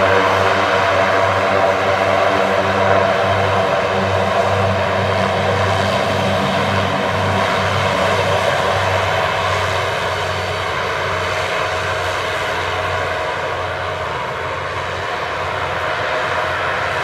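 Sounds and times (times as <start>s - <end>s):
turboprop engines droning: 0.0s - 17.0s.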